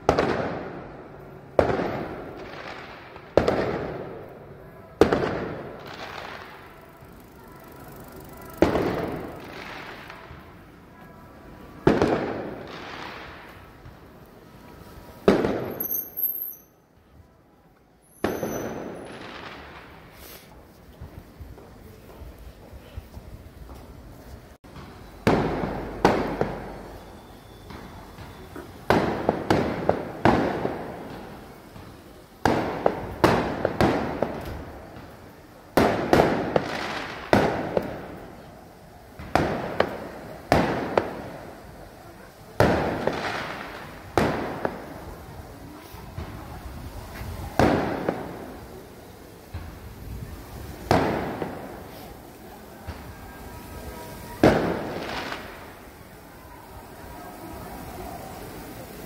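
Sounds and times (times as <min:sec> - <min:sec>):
fireworks banging: 0:00.0 - 0:16.9, 0:18.0 - 0:59.0.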